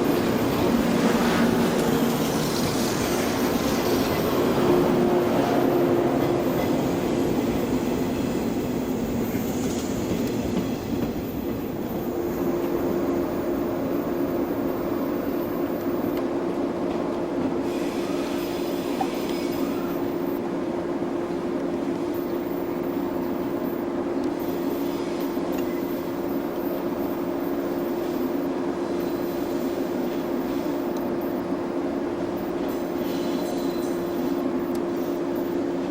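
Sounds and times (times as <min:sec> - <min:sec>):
train rumbling on track: 0:00.0 - 0:35.9.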